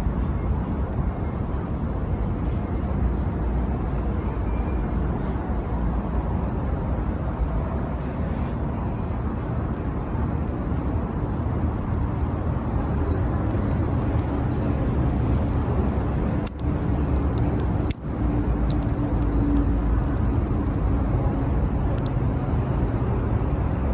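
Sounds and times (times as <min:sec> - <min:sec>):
bonfire crackling: 0:00.5 - 0:23.9.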